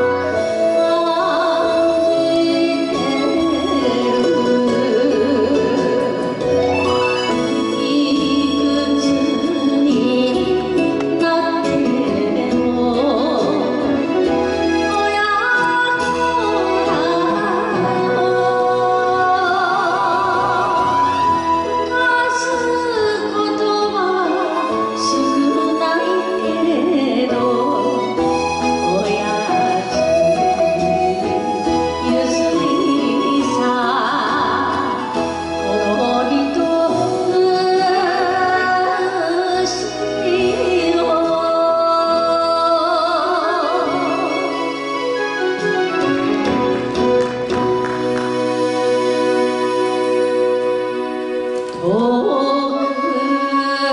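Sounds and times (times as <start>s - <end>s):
woman singing into a microphone: 0.0s - 46.0s, 51.4s - 53.9s
karaoke backing track: 0.0s - 53.9s.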